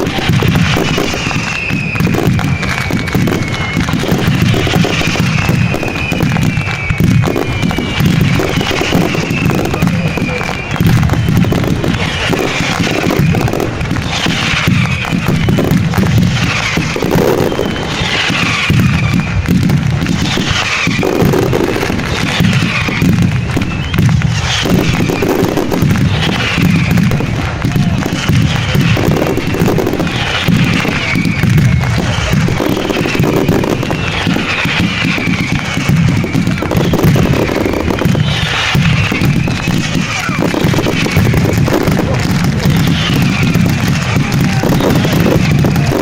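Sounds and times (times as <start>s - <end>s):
fireworks bursting: 0.0s - 46.0s.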